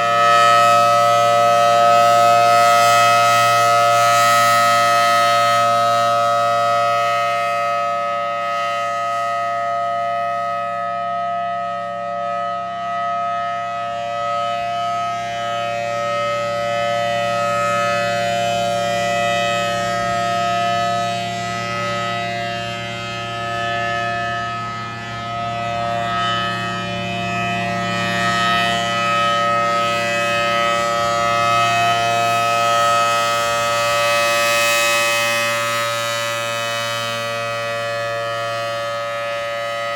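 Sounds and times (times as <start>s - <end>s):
warning siren steady chord: 0.0s - 39.9s.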